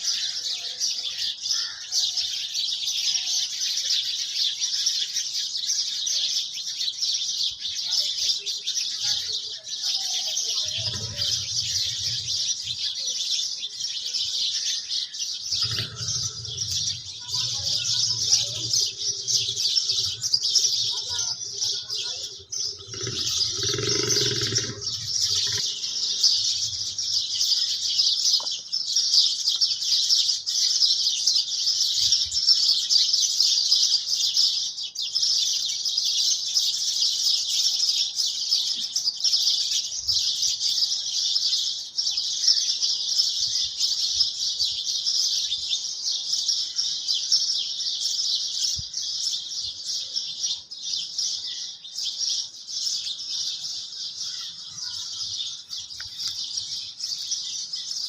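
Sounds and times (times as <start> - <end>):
birds chirping: 6.6 - 33.6, 35.5 - 58.0.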